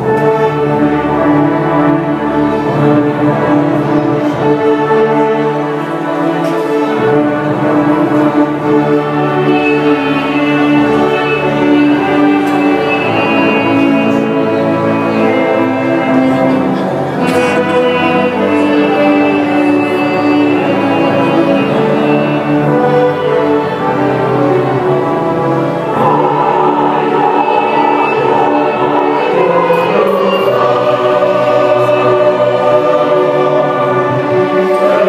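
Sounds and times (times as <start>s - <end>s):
choir singing a hymn: 0.0s - 35.0s.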